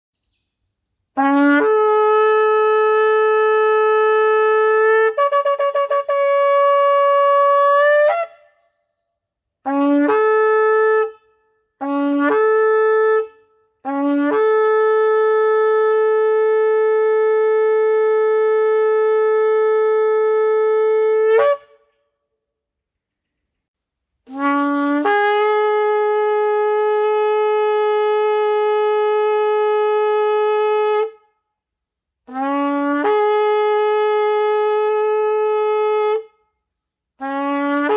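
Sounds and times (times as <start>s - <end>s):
shofar blasts: 1.2s - 8.6s, 9.6s - 21.9s, 24.3s - 31.3s, 32.2s - 36.4s, 37.2s - 37.9s.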